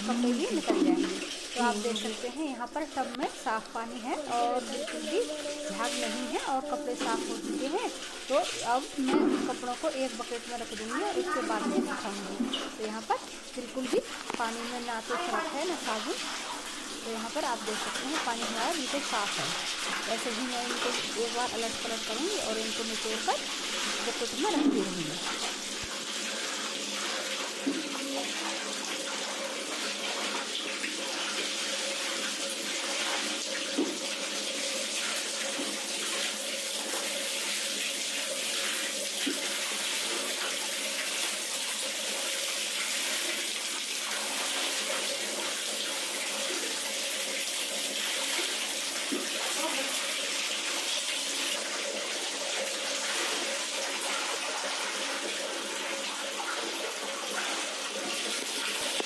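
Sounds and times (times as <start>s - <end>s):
water rushing: 0.0s - 59.0s
water sloshing and splashing: 0.0s - 59.0s.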